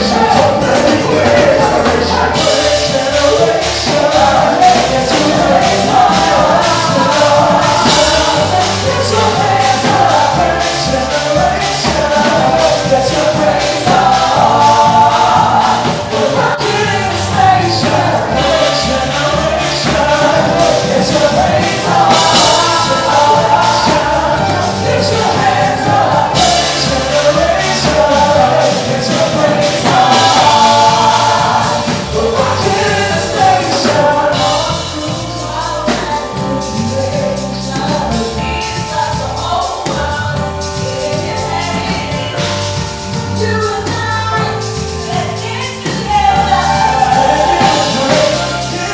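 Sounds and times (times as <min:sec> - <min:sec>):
gospel choir singing: 0:00.0 - 0:48.9
instrumental backing: 0:00.0 - 0:48.9.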